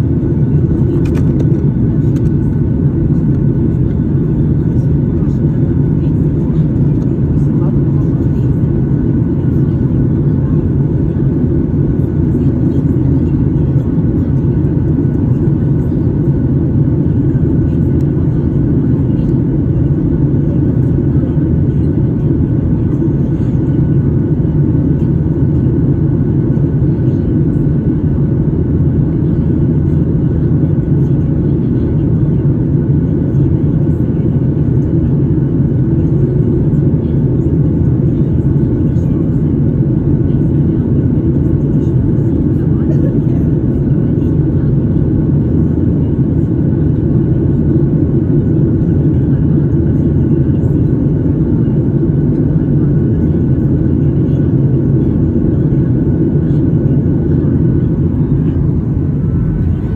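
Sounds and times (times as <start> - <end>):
faint steady whine: 0.0 - 59.9
jet engine rumble: 0.0 - 59.9.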